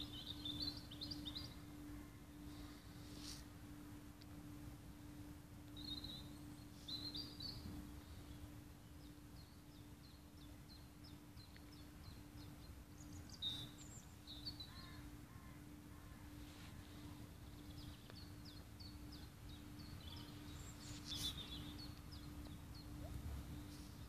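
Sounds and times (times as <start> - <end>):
faint birdsong: 0.0 - 24.0
low outdoor rumble: 0.0 - 24.0
steady low hum: 0.0 - 24.0.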